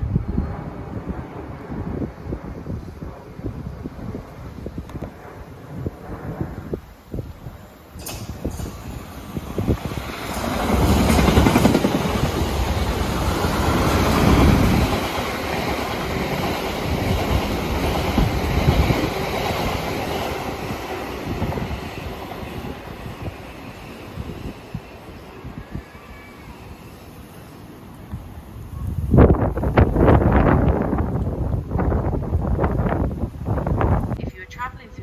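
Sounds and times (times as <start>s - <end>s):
train wheels rumbling on rails: 0.0s - 34.2s.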